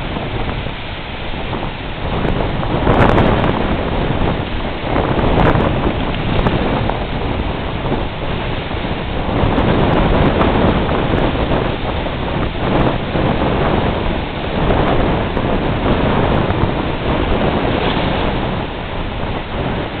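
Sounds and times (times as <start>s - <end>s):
strong wind buffeting microphone: 0.0s - 20.0s
surf breaking: 0.0s - 20.0s.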